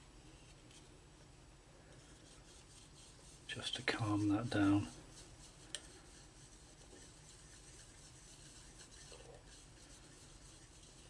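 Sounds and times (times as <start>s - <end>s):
palette knife rubbing paint: 2.0s - 11.0s.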